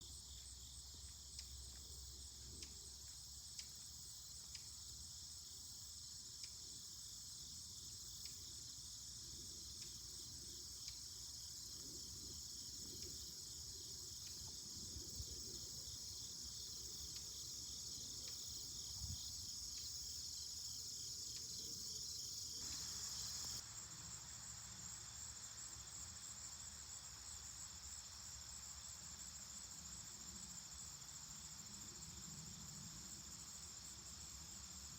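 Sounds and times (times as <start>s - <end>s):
insect chorus drone: 0.0s - 34.9s.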